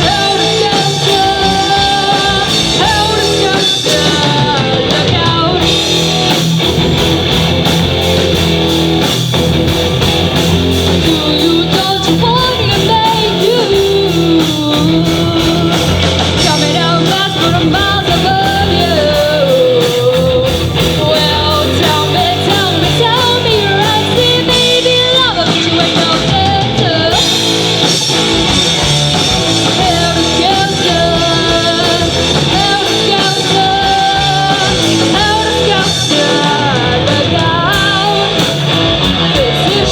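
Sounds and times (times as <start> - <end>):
guitar: 0.0 - 39.9
lead singer: 0.0 - 39.9
rock band playing live: 0.0 - 39.9.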